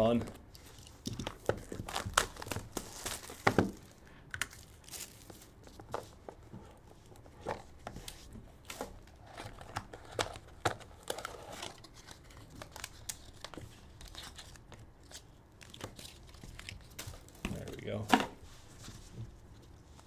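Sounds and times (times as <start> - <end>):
cardboard rustling and crinkling: 0.1 - 20.0.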